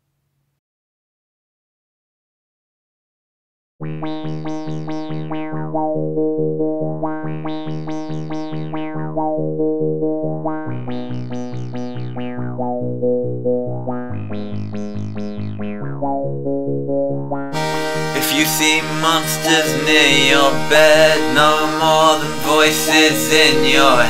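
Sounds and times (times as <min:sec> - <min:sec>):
keyboard note runs: 0:03.8 - 0:24.0
pulsing keyboard bass note: 0:03.8 - 0:24.0.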